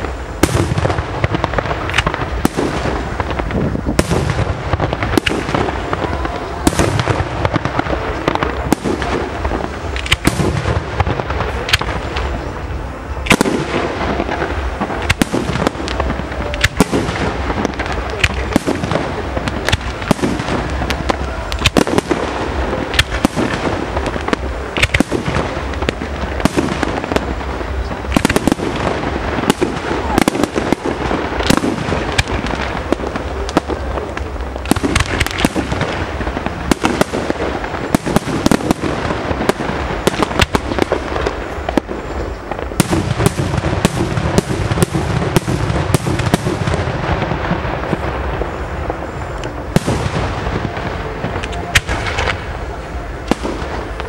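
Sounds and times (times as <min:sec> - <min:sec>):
firework crackling: 0:00.0 - 0:54.0
firework shells bursting: 0:00.0 - 0:54.0.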